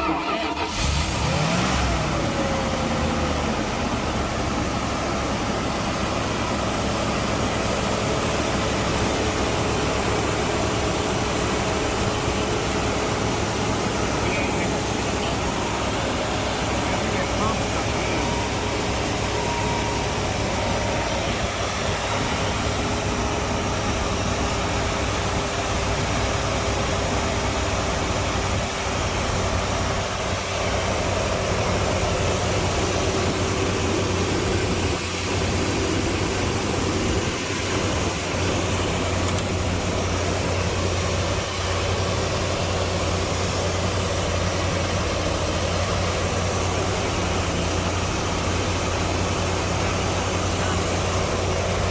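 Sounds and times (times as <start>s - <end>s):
pickup truck engine idling: 0.0s - 51.9s.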